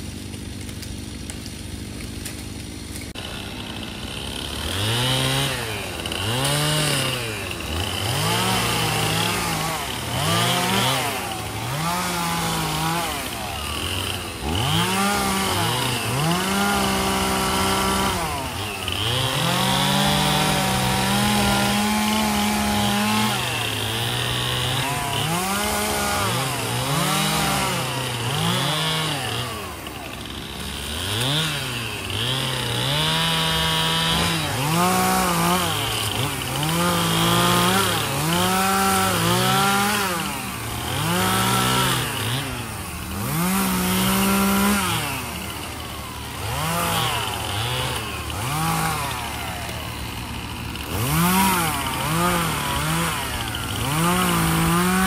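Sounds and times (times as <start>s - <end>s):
chainsaws revving: 0.0s - 55.0s.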